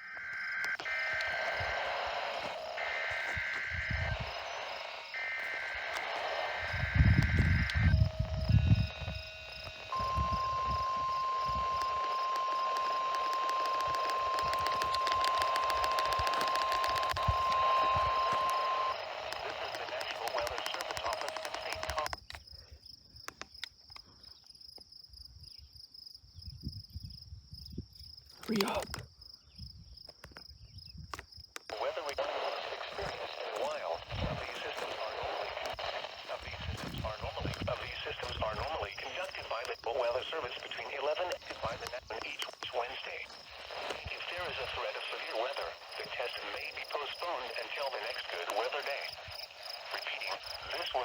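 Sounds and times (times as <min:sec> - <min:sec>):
radio static: 0:00.0 - 0:22.3, 0:28.4 - 0:29.0, 0:31.1 - 0:51.0
crickets chirping: 0:00.0 - 0:51.0
sharp clicks: 0:00.2 - 0:22.6, 0:23.2 - 0:24.1, 0:31.0 - 0:51.0.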